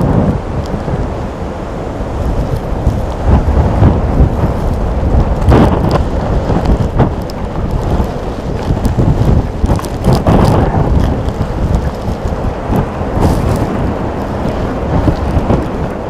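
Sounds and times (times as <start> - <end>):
blizzard wind buffeting microphone: 0.0 - 16.0
sharp crackles: 2.0 - 16.0.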